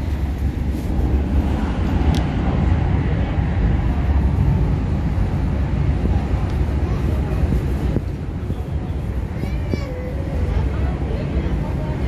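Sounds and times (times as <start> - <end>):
train interior rumble: 0.0 - 12.0.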